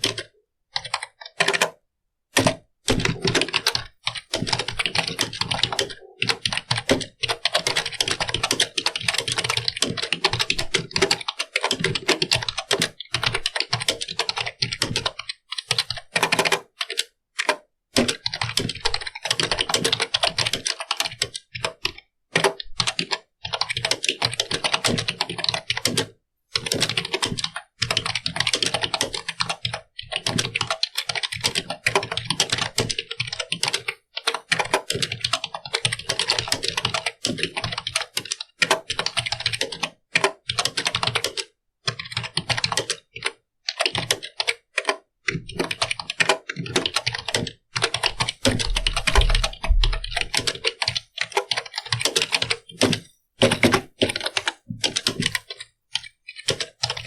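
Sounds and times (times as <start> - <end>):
fast typing on keyboard: 0.0 - 57.0.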